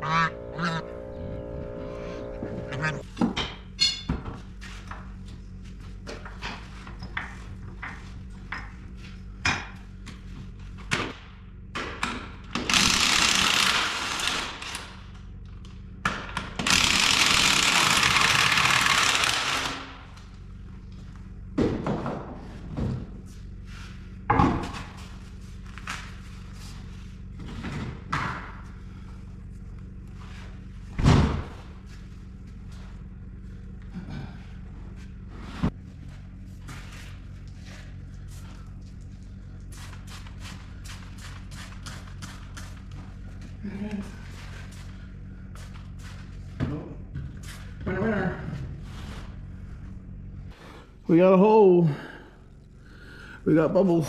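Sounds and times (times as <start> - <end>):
low hum: 0.0 - 12.7, 14.6 - 51.2, 51.9 - 54.0.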